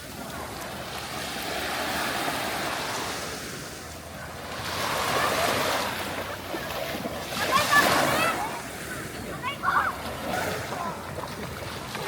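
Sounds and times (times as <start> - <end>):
sea surf washing onto shore: 0.0 - 12.0.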